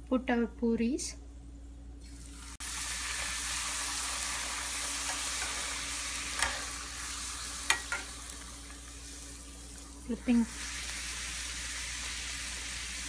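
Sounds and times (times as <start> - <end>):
dough sizzling in hot oil: 2.0 - 13.0.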